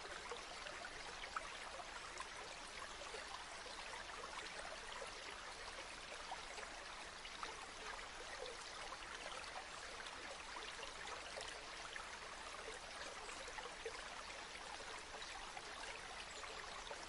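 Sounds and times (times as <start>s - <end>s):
stream babbling over stones: 0.0s - 17.0s.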